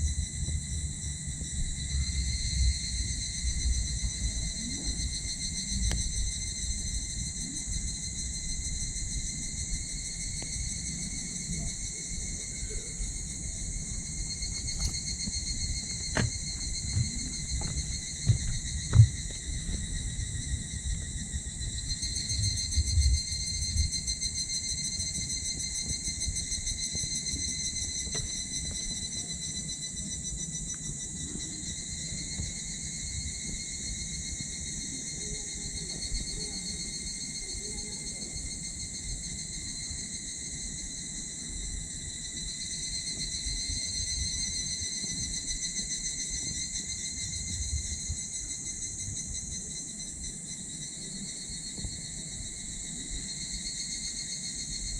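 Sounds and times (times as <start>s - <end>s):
crickets chirring: 0.0s - 54.9s.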